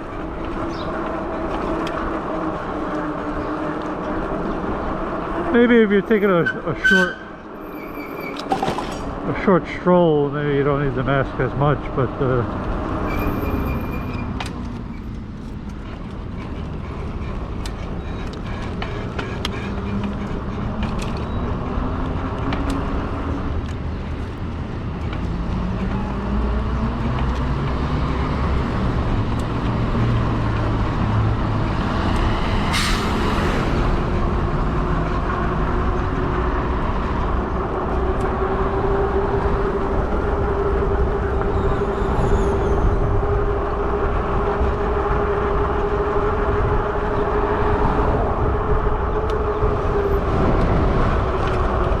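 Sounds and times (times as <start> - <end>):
road and traffic noise: 0.0 - 52.0.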